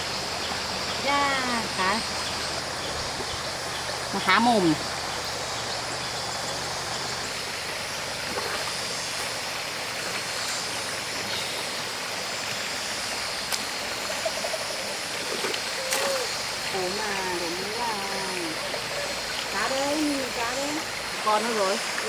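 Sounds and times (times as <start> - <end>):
stream water running: 0.0 - 22.0.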